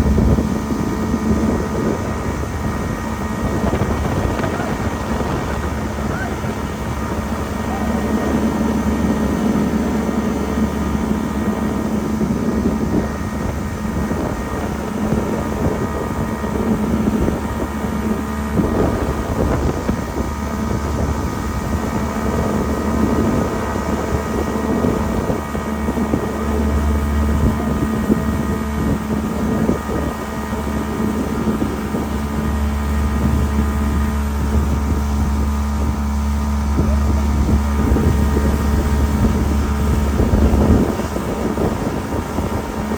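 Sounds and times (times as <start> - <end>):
moving river water: 0.0 - 42.9
steady hum: 0.0 - 42.9
wind buffeting microphone: 0.0 - 42.9.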